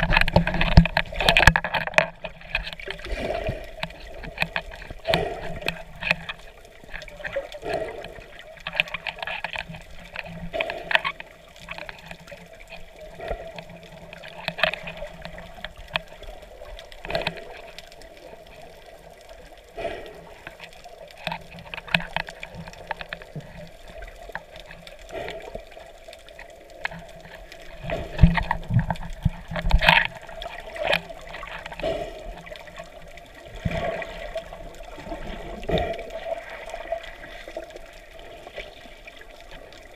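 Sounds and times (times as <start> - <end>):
muffled underwater sloshing and bubbling: 0.0 - 39.9
underwater clicks and knocks: 0.0 - 39.9.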